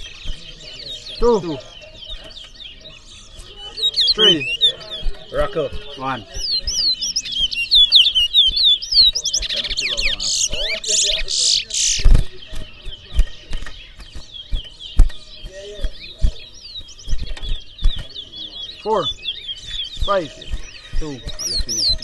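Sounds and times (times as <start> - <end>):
bird song phrases: 0.0 - 22.0
finch twittering chirps: 0.0 - 22.0.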